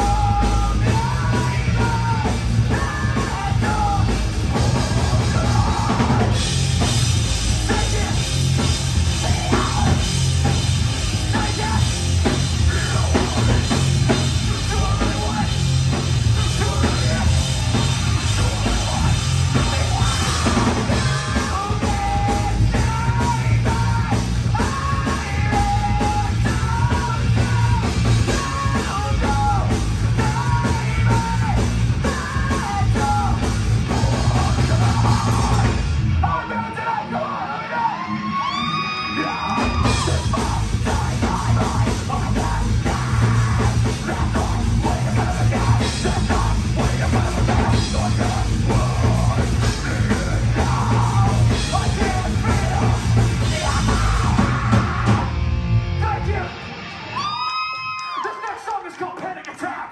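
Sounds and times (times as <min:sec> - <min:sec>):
person yelling and singing: 0:00.0 - 0:06.4, 0:07.6 - 0:55.4, 0:56.0 - 0:59.9
drum kit: 0:00.0 - 0:36.6, 0:39.2 - 0:57.3
bass guitar: 0:00.0 - 0:57.5
electric guitar: 0:00.0 - 0:58.4.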